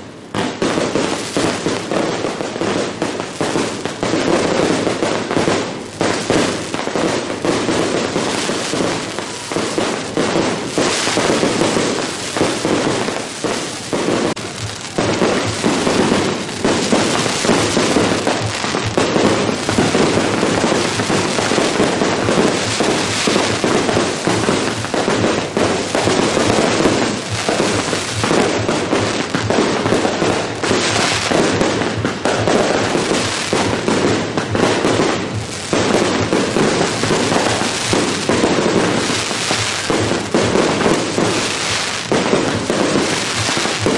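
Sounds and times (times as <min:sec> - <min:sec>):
firecrackers and fireworks banging: 0:00.0 - 0:43.9.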